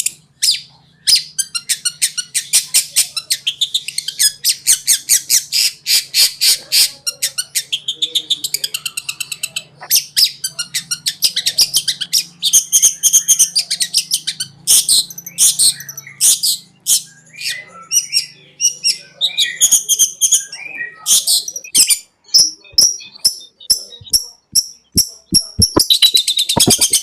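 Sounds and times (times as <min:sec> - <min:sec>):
bird chattering song: 0:00.0 - 0:27.0.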